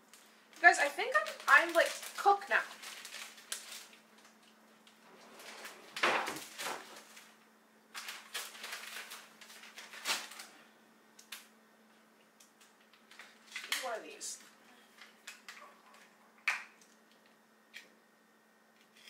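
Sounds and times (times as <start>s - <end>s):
refrigerator humming: 0.0s - 19.0s.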